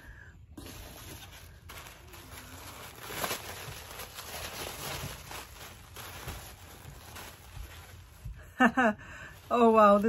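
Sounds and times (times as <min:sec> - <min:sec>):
tissue paper rustling: 0:00.5 - 0:10.0.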